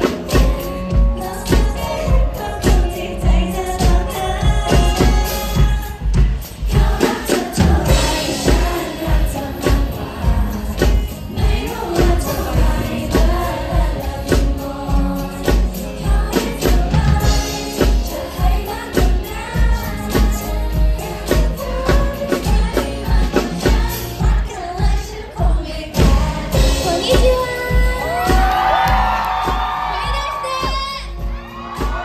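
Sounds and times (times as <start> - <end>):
female vocals: 0.0 - 32.0.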